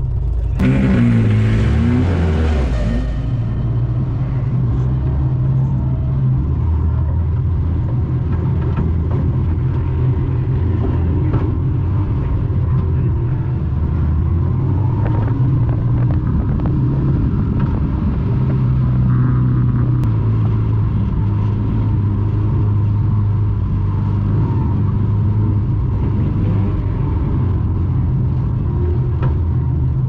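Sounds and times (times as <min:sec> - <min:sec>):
car engine at low revs: 0:00.0 - 0:30.0.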